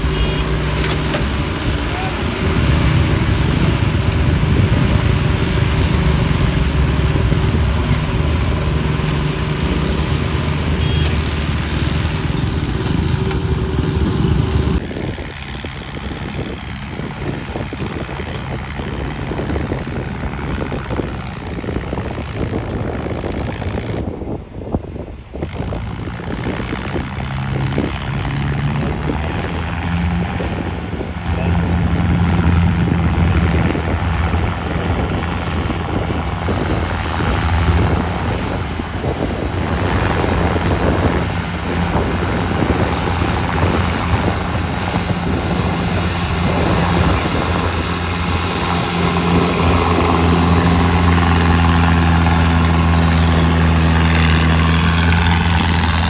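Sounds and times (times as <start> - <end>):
distant tractor engine: 0.0 - 24.0, 25.4 - 56.0
diesel engines running: 0.0 - 56.0
gusty wind rumble: 0.0 - 56.0.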